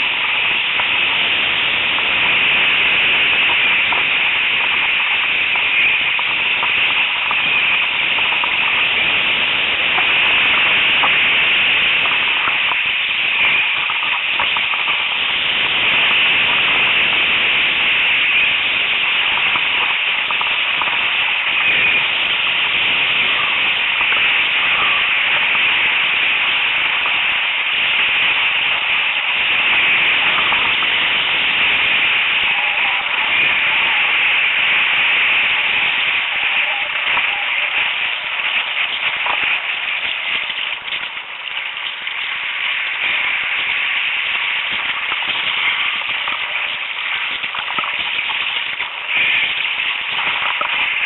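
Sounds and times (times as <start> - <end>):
faint crackles: 0.0 - 51.0
surf breaking: 0.0 - 51.0
wind on microphone: 0.0 - 51.0.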